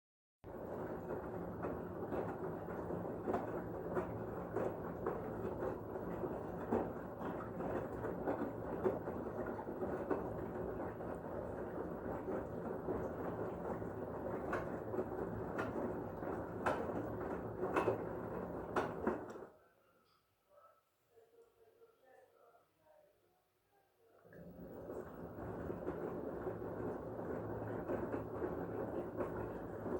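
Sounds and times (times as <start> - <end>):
washing machine drum churning: 0.4 - 19.5, 24.3 - 29.9.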